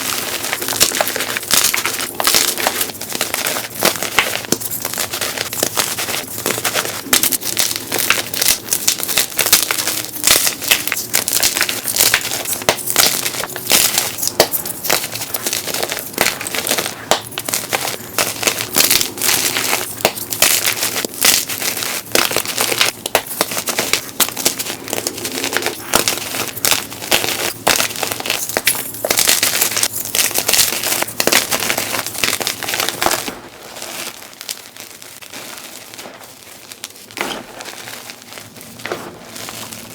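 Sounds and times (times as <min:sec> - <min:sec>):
chalk being crushed by hand: 0:00.0 - 0:39.9.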